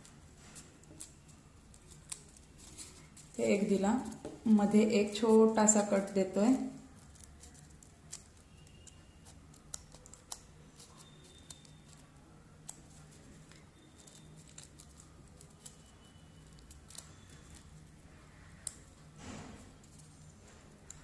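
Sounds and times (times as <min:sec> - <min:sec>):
scissors snipping paper: 0:00.0 - 0:04.2, 0:05.8 - 0:19.0.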